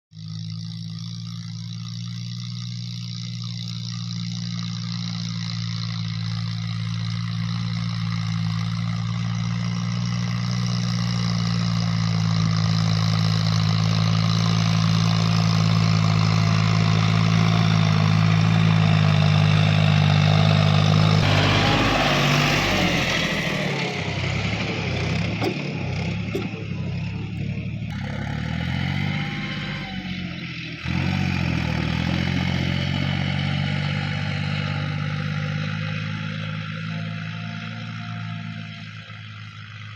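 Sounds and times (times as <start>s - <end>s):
tractor diesel engine running: 0.2s - 39.9s.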